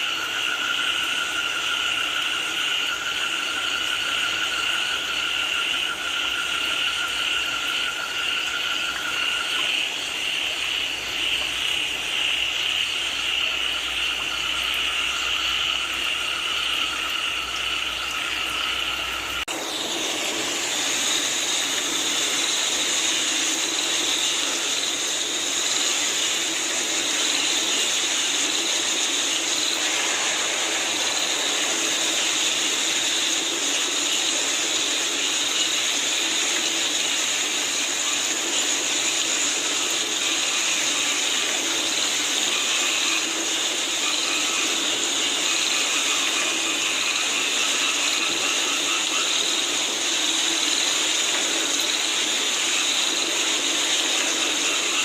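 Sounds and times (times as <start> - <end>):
frogs calling: 0.0 - 55.0
rain hissing: 0.0 - 55.0.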